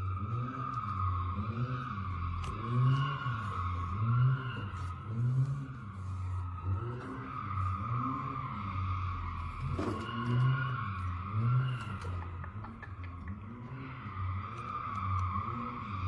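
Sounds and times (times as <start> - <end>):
car engine revving: 0.0 - 16.0
tyre squeal: 0.0 - 16.0.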